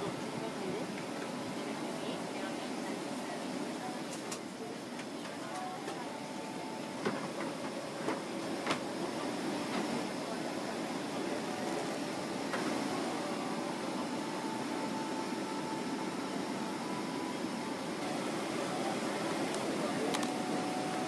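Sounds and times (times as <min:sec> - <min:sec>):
airliner cabin rushing hum: 0:00.0 - 0:21.0.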